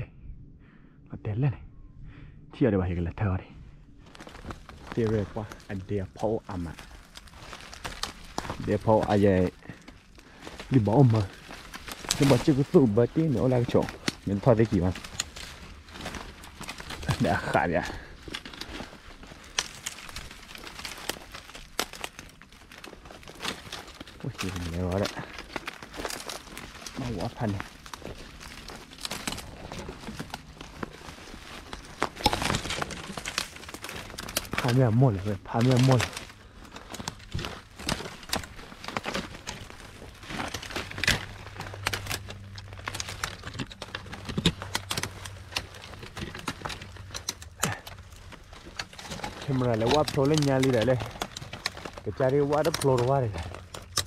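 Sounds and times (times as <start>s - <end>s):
crackling: 3.0s - 54.0s
footsteps: 3.8s - 54.0s.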